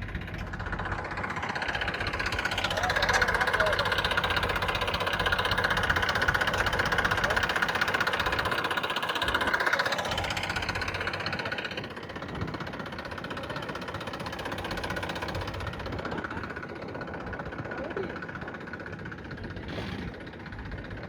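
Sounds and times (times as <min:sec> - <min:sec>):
tractor engine chugging: 0:00.0 - 0:21.0.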